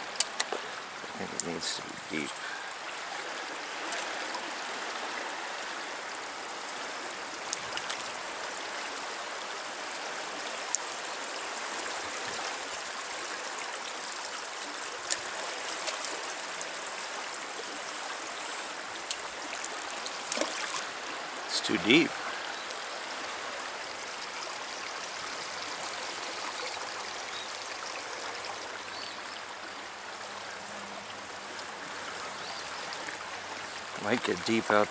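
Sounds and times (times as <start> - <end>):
river rushing: 0.0 - 34.9.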